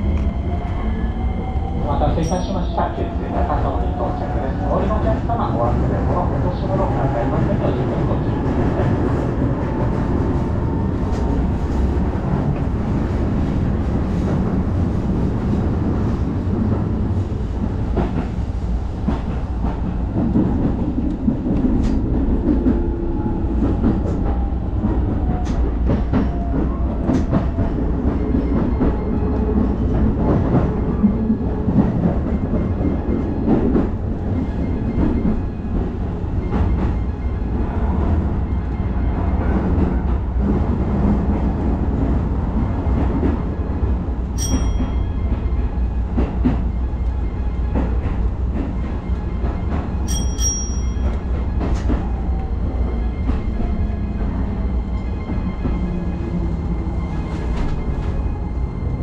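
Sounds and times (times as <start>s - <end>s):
train rumble from inside carriage: 0.0s - 59.0s.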